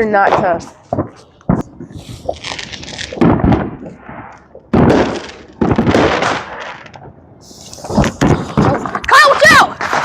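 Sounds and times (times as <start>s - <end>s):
loud firework bangs: 0.0s - 7.1s, 7.8s - 10.0s
firework cracks: 0.0s - 10.0s
fireworks crackling: 0.0s - 10.0s.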